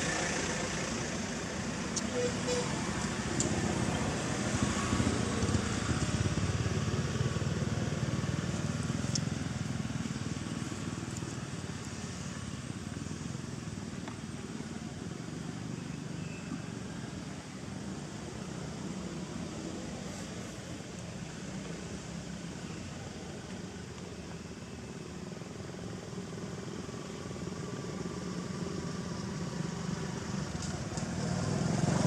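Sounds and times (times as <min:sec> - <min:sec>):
outdoor noise: 0:00.0 - 0:32.0.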